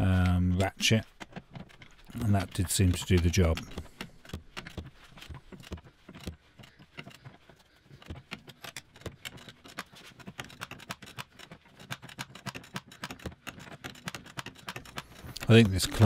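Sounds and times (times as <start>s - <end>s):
ratchet clicking: 0.0s - 16.0s.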